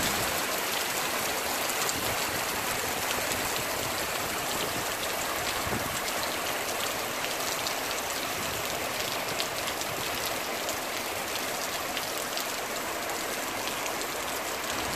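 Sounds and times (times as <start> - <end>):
heavy rain on asphalt: 0.0 - 14.9.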